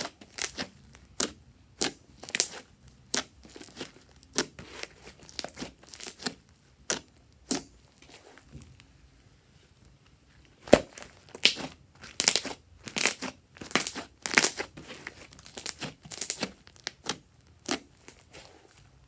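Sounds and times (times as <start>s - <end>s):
slime squelching: 0.0s - 9.2s, 9.8s - 19.0s.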